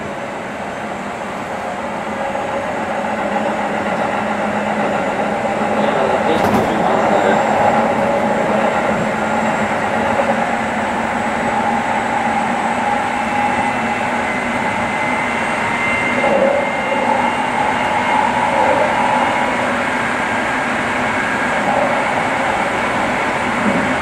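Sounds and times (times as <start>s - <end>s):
traction motors humming: 0.0s - 24.0s
wheels rumbling on rail: 0.0s - 24.0s.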